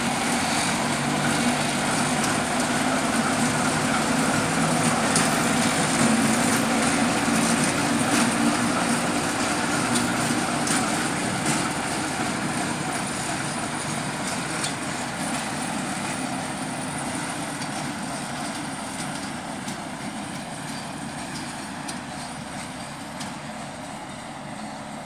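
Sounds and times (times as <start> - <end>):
diesel locomotive engine running: 0.0 - 25.0
train wheels clicking on rails: 0.0 - 25.0.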